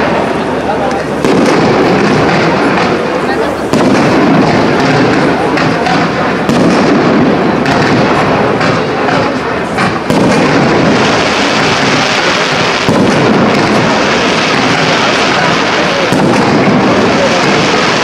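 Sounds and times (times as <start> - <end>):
fireworks launches and bursts: 0.0 - 18.0.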